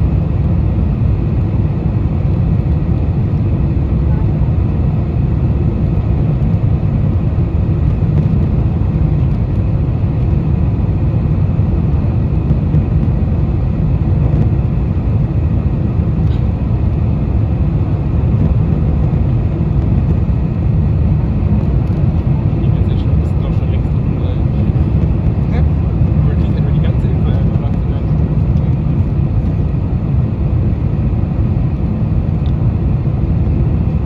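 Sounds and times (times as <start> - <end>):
airplane cabin engine roar: 0.0 - 34.0.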